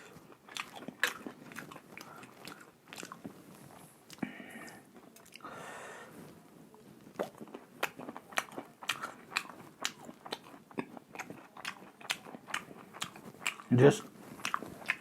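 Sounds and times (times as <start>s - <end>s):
chewing crunchy food: 0.0s - 5.5s, 6.2s - 15.0s.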